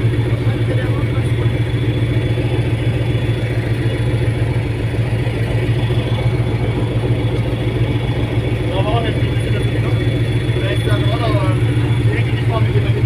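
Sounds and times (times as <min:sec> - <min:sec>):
ferry diesel engines droning: 0:00.0 - 0:13.0.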